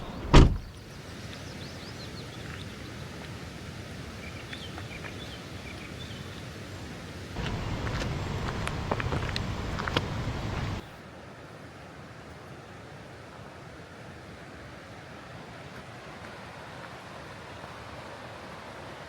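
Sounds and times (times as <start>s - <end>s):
flowing river water: 0.0s - 19.0s.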